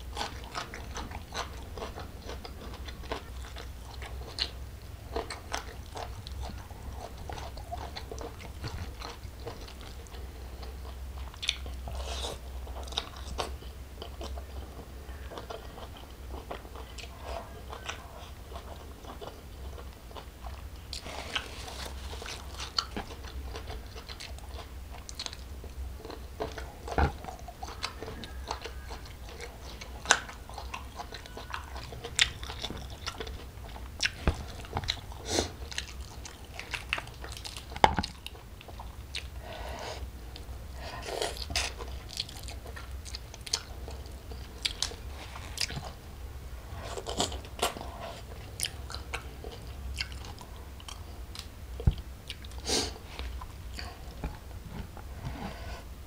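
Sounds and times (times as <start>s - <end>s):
chewing and biting: 0.0s - 39.4s, 40.4s - 46.0s, 46.8s - 55.0s.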